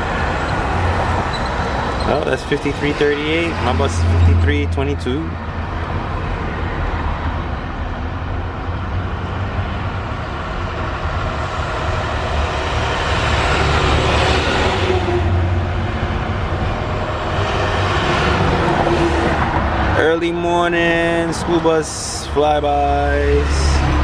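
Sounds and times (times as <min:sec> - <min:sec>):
vehicle passing close by: 0:00.0 - 0:07.4, 0:08.8 - 0:20.0, 0:23.0 - 0:24.0
road noise: 0:00.0 - 0:24.0
vehicle engines rumbling: 0:00.0 - 0:24.0.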